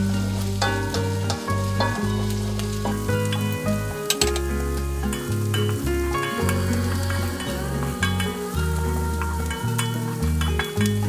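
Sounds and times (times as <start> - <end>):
background music with bass line: 0.0 - 11.0
food sizzling in oil in a wok: 0.0 - 11.0.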